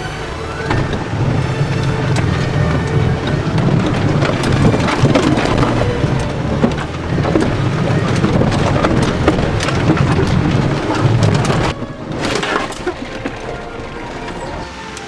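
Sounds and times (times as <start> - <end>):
rattles and knocks in cab: 0.0 - 14.7
truck engine droning: 0.0 - 15.0.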